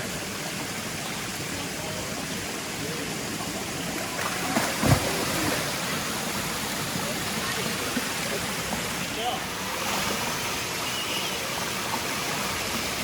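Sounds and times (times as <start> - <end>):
waterfall and stream rushing: 0.0 - 13.0.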